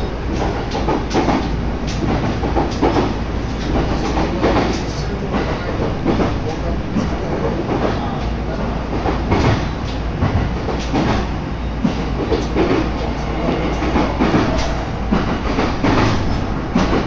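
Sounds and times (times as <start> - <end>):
train rumble: 0.0 - 17.0
wheels clacking over rail joints: 0.0 - 17.0.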